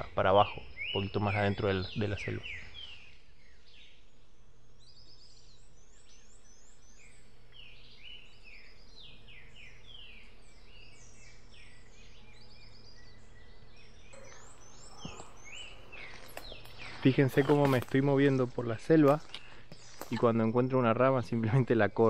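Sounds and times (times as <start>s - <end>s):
faint low hum: 0.0s - 22.0s
forest birds calling and singing: 0.0s - 22.0s.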